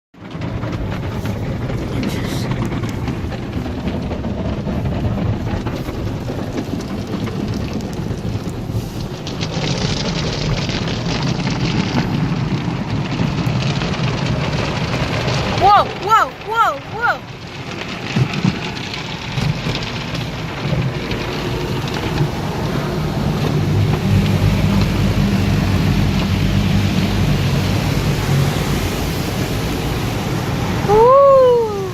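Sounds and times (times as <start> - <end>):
car wash rumbling: 0.2 - 31.9
water ticking on car body: 0.2 - 31.9.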